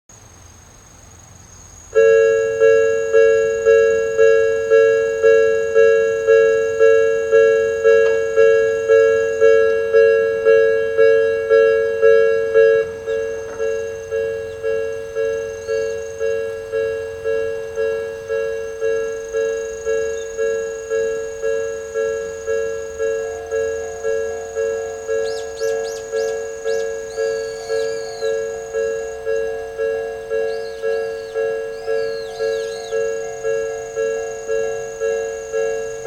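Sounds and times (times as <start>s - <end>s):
level crossing bell dinging: 2.0s - 36.0s.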